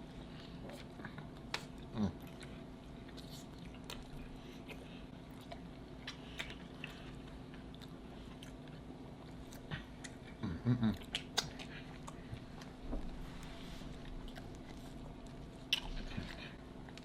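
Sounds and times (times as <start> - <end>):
person chewing food: 0.2 - 17.0.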